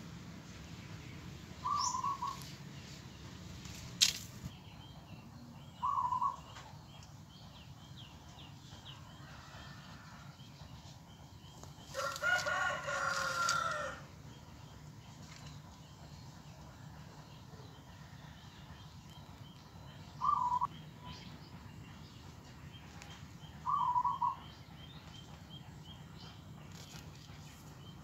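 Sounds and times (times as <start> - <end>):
bird calls: 1.6 - 16.2, 17.6 - 28.0.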